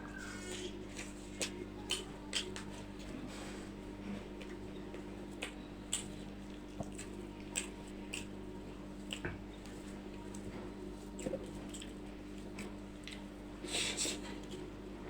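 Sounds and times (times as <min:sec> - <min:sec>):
steady low hum: 0:00.0 - 0:15.0
wet eating sounds: 0:00.1 - 0:14.7.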